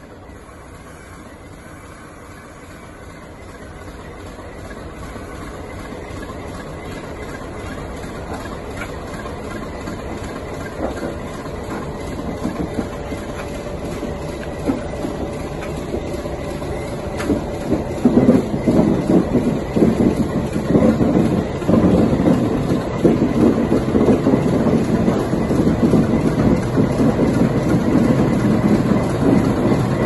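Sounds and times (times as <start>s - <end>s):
diesel locomotive engine: 0.0s - 30.0s
train wheels clanking on bridge: 3.5s - 30.0s.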